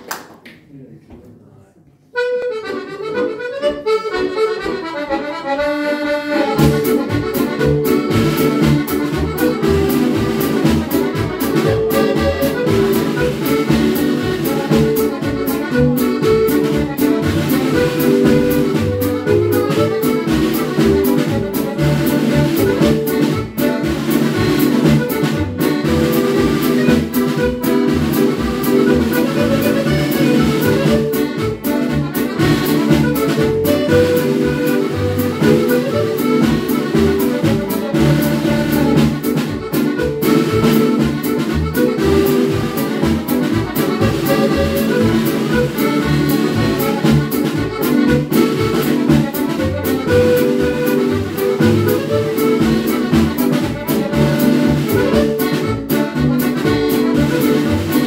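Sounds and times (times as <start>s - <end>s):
piano accordions playing a tune: 2.1s - 58.0s
snare drum beat: 6.6s - 58.0s.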